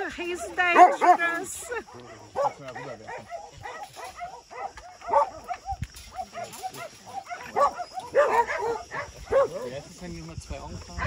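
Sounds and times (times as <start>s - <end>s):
dogs barking: 0.2s - 9.9s.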